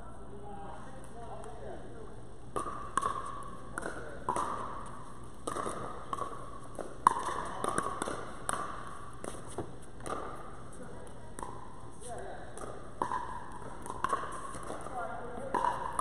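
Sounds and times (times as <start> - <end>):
paddles hitting plastic ball: 2.5 - 16.0.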